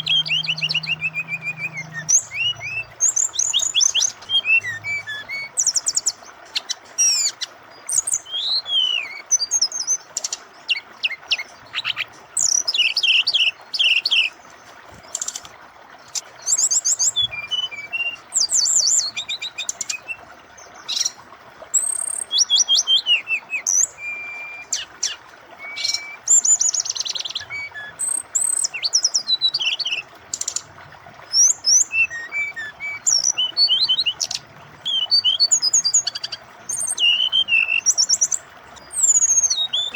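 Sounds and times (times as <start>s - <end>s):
bird singing chirps and trills: 0.0s - 39.9s
running water hiss: 0.0s - 39.9s.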